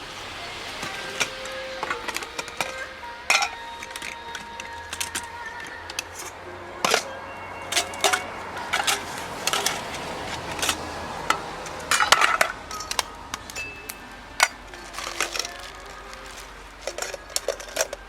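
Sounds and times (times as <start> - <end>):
popcorn popping in metal pan: 0.0 - 18.0.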